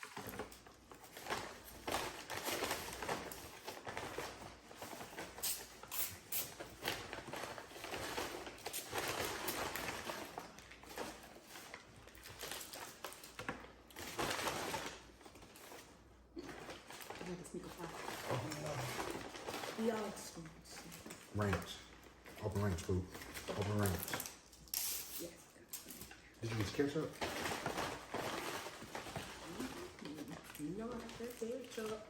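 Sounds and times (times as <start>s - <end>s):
paper bags and wrappers rustling: 0.0s - 32.0s.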